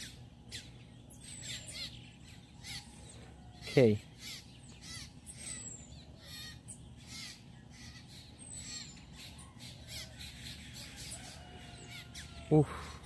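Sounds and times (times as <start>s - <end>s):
birds chirping: 0.0s - 13.0s
low background hum: 0.0s - 13.0s.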